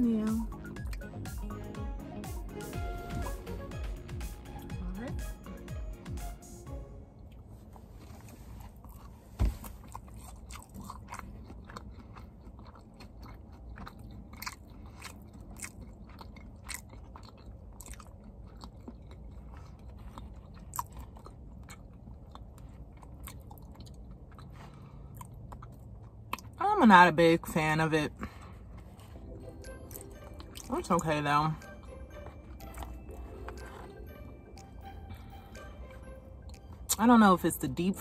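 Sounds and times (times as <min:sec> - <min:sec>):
person chewing food: 0:00.4 - 0:04.7, 0:07.2 - 0:26.6, 0:28.1 - 0:37.0.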